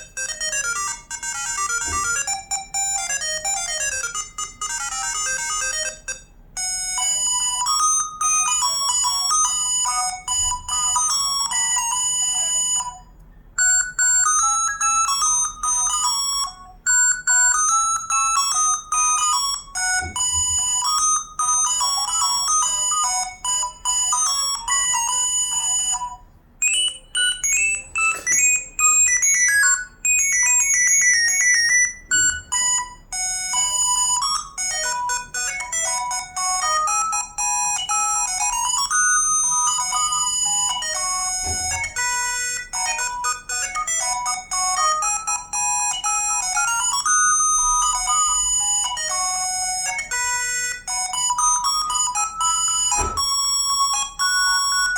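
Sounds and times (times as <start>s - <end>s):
electronic phone ringtone melodies: 0.0s - 54.9s.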